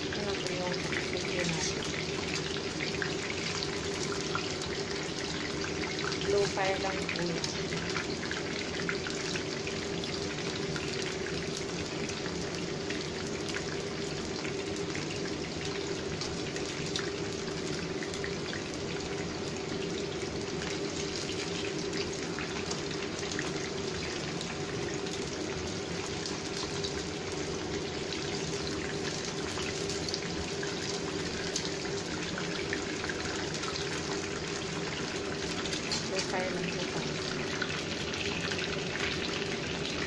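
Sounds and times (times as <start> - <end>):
food frying in oil: 0.0 - 40.0.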